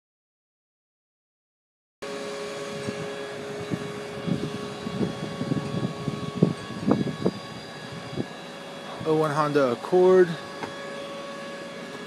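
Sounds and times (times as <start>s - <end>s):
steady machine hum: 2.0s - 12.0s.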